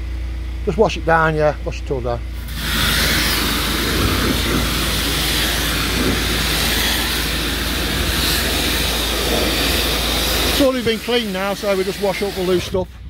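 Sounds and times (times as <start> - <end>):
machine low drone: 0.0 - 13.0
pressure washer jet hissing: 2.4 - 12.9.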